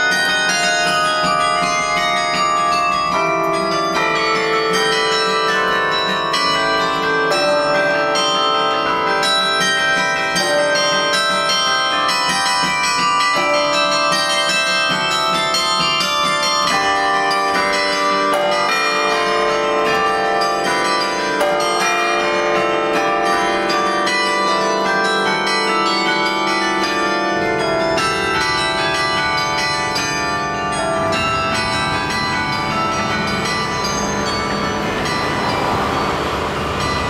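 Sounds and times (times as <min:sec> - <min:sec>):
carillon bells ringing: 0:00.0 - 0:37.0.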